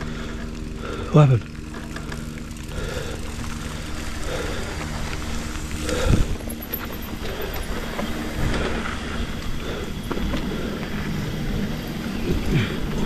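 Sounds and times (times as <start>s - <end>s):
bike tyre and trail noise: 0.0s - 13.0s
bike knocks and rattles: 1.4s - 13.0s.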